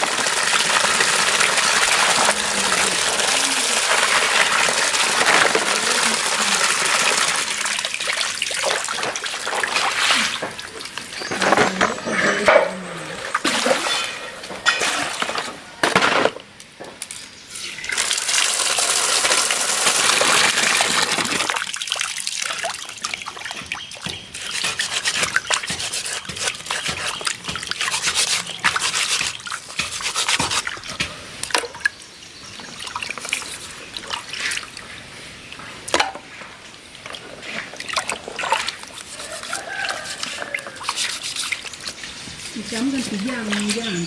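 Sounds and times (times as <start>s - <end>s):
water splashing and trickling: 0.0s - 15.8s, 17.0s - 44.0s.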